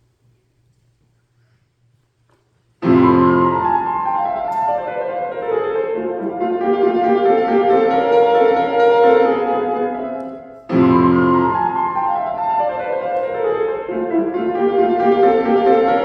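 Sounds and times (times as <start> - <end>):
classical piano music: 2.8 - 16.0.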